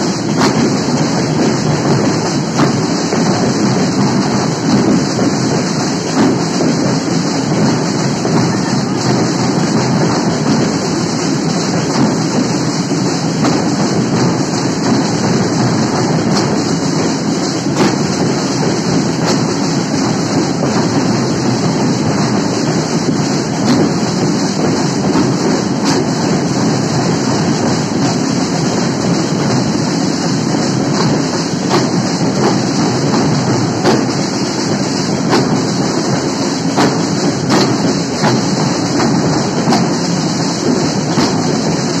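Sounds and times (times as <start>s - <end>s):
marching drum band: 0.0s - 42.0s.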